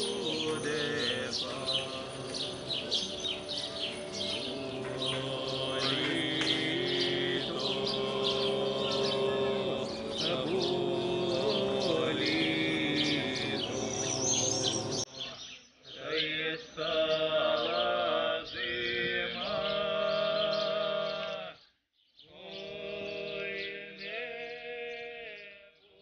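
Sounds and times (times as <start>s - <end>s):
men singing a cappella chant: 0.0s - 15.1s, 16.0s - 21.6s, 22.3s - 25.8s.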